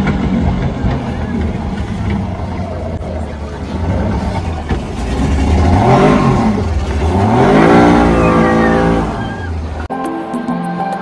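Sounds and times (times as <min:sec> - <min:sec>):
outboard motor revving: 0:00.0 - 0:09.9.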